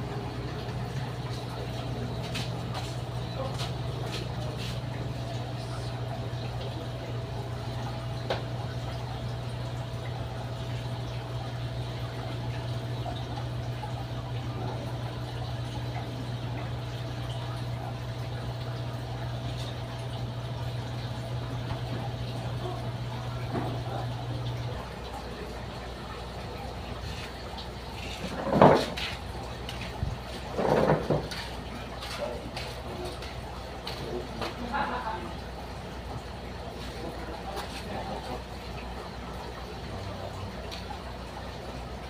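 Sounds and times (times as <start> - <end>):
aquarium pump hum: 0.0 - 42.0
water bubbling and trickling: 0.0 - 42.0.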